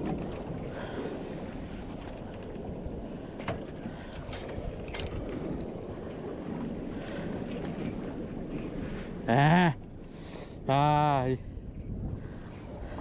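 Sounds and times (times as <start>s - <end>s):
water moving around boat: 0.0s - 13.0s
wind over microphone: 0.0s - 13.0s.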